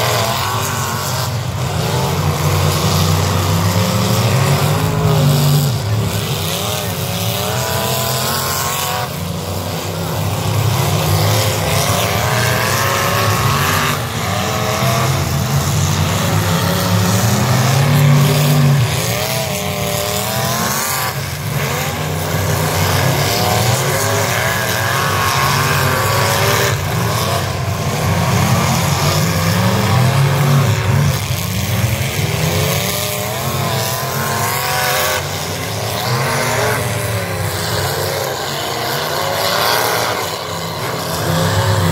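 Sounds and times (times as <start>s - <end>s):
car engines revving hard: 0.0s - 41.9s.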